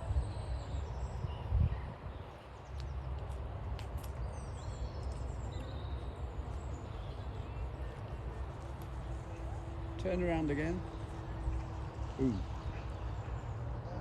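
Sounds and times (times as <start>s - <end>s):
low wind rumble on microphone: 0.0s - 14.0s
small birds chirping: 0.2s - 14.0s.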